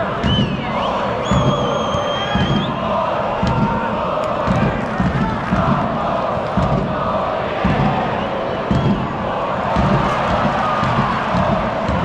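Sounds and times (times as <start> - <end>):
crowd chanting: 0.0 - 12.0
low drum beat: 2.4 - 12.0.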